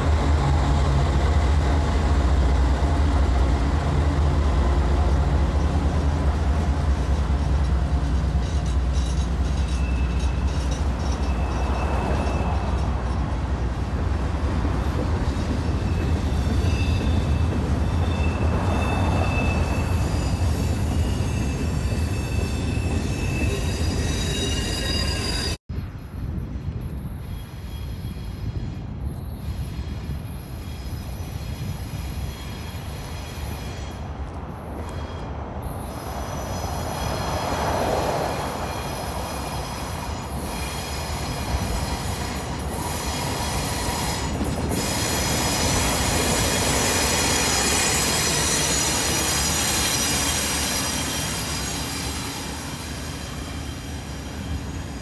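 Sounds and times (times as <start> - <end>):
train rumble: 0.0 - 55.0
wheel squeal on rails: 0.0 - 55.0.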